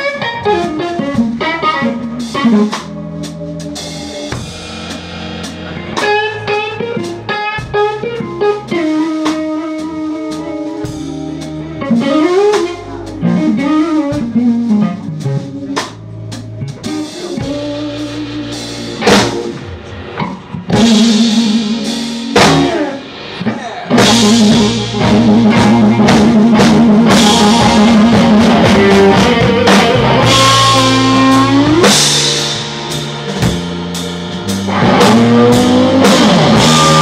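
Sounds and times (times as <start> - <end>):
electric guitar solo: 0.0 - 16.0, 16.6 - 37.0
blues-rock band playing: 0.0 - 37.0.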